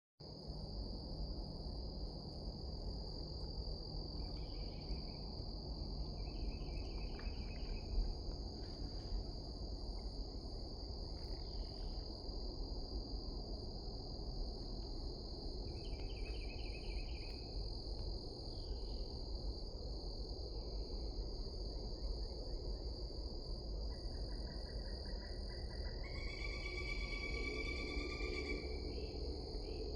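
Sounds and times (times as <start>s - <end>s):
insect chorus: 0.2s - 29.9s
low background rumble: 0.2s - 29.9s.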